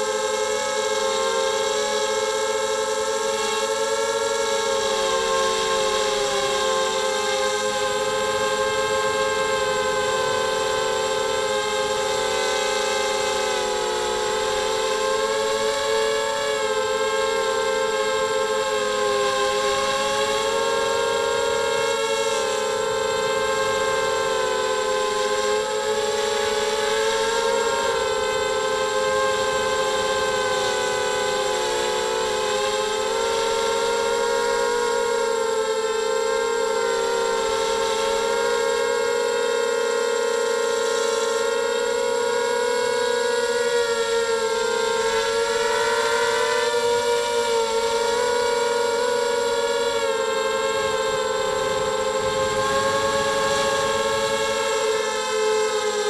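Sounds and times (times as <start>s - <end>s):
quadcopter motors whining: 0.0s - 56.0s.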